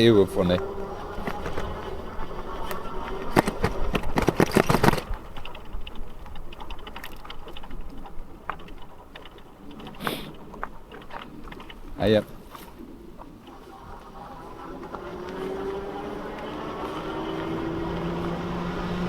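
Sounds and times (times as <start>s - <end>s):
tricycle rattling over rough ground: 0.0s - 19.0s.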